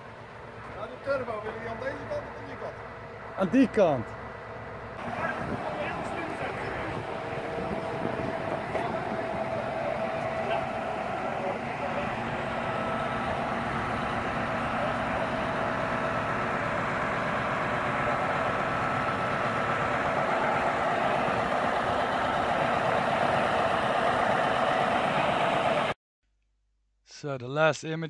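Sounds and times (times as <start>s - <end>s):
diesel engine running: 0.0s - 26.0s
steady whine: 0.0s - 26.0s.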